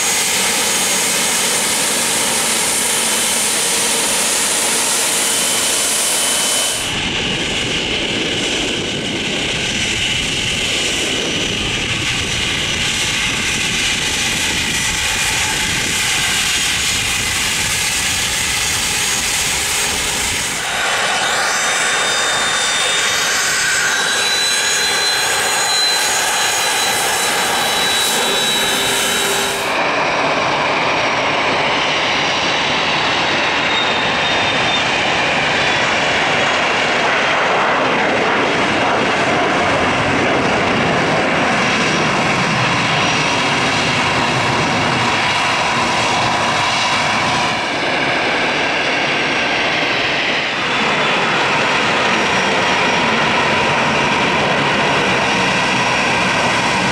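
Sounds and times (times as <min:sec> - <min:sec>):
high jet engine whine: 0:00.0 - 0:56.9
jet engine rush: 0:00.0 - 0:56.9.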